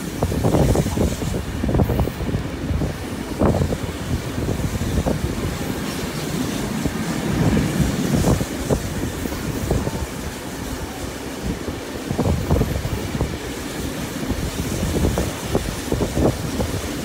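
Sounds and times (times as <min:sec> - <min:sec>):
train wheels rumbling on rails: 0:00.0 - 0:17.0
wind on the microphone: 0:00.0 - 0:17.0.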